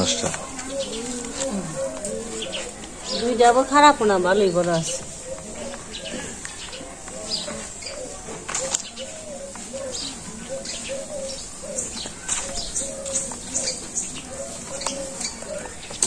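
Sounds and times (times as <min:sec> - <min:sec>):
bird cooing: 0:00.0 - 0:16.0.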